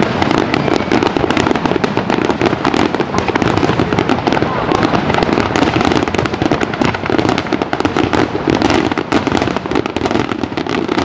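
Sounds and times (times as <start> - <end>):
fireworks bursting in crackling rumble: 0.0 - 11.0.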